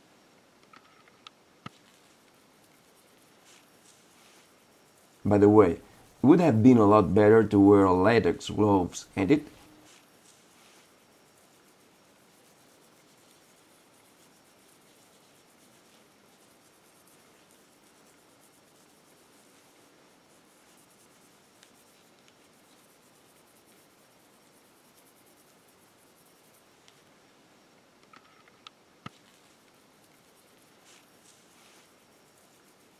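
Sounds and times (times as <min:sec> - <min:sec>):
cloth rubbing on metal: 0:01.7 - 0:26.9, 0:29.1 - 0:32.9.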